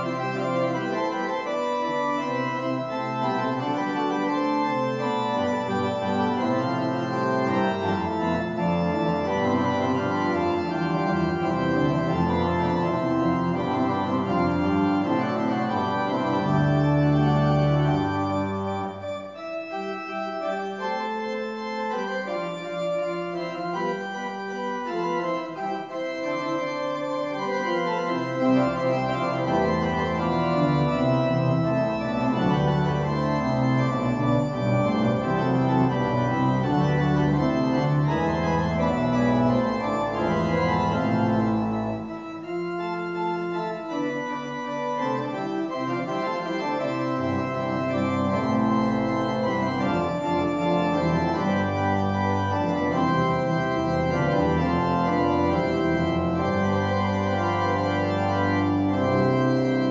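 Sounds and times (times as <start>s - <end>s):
church organ chords: 0.0s - 59.9s
deep bass organ notes: 0.0s - 59.9s.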